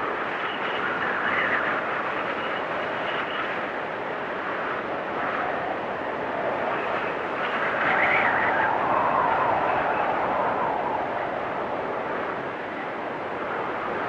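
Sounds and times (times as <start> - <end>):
storm wind whistling: 0.0 - 14.0.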